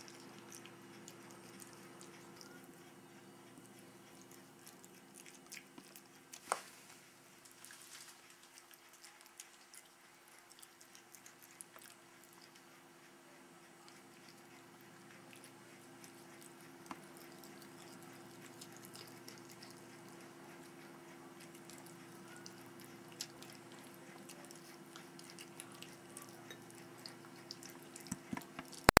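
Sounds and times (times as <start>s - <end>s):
cat crunching food: 0.0s - 2.9s, 3.5s - 6.7s, 7.4s - 12.7s, 13.8s - 29.0s
steady low hum: 0.0s - 29.0s.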